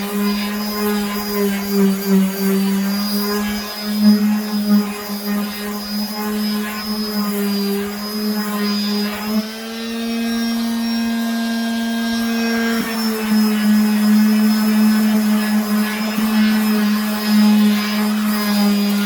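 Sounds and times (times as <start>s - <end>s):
power sander on wood: 0.0s - 19.0s.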